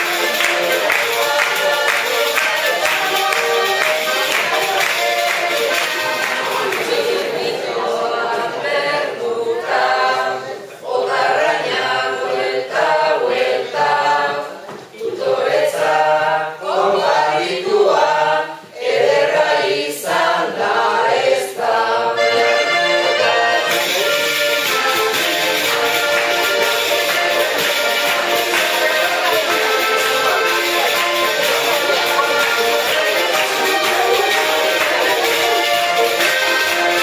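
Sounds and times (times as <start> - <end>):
group singing unaccompanied: 0.0 - 37.0.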